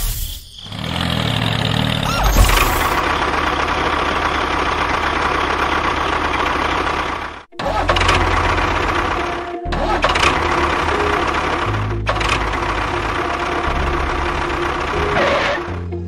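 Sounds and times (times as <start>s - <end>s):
tractor engine throbbing: 0.6s - 16.0s.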